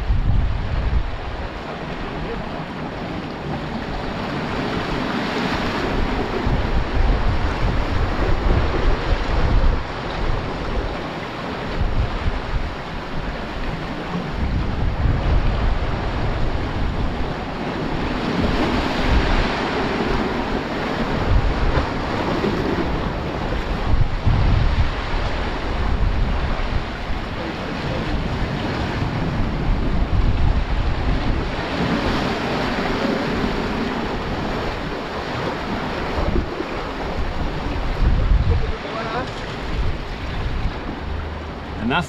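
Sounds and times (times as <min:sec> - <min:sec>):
sea breaking over rocks: 0:00.0 - 0:42.0
wind buffeting microphone: 0:00.0 - 0:42.0.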